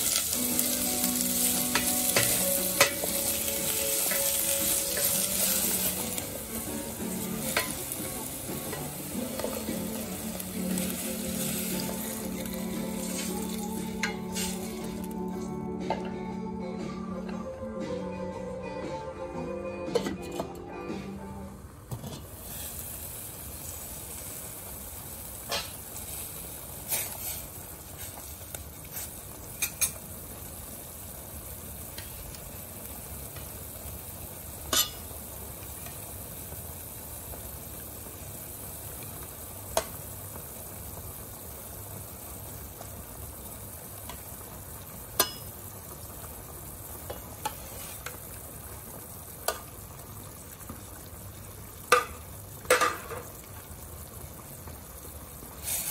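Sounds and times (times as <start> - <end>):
soup boiling in a pot: 0.0 - 15.5, 21.6 - 55.9.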